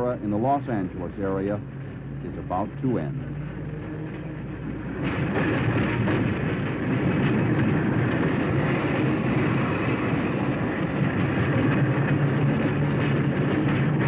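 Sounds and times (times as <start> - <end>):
electric railcar rumbling on track: 0.0 - 14.0
low hum: 0.0 - 14.0.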